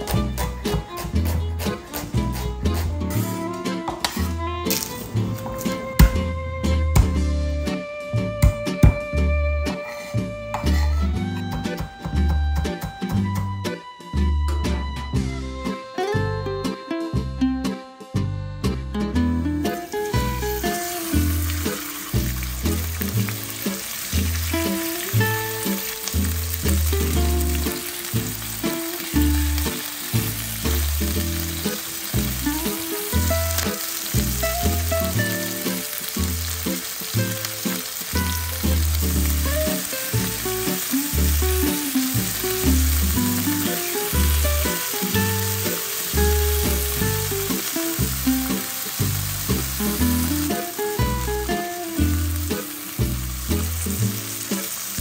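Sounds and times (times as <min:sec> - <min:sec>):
chicken sizzling in frying pan: 0:00.0 - 0:12.7, 0:19.5 - 0:55.0
background music: 0:00.0 - 0:55.0.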